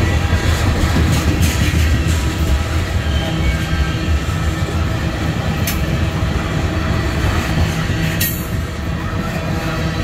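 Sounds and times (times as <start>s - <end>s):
steel train wheels rumbling on rail: 0.0s - 10.0s.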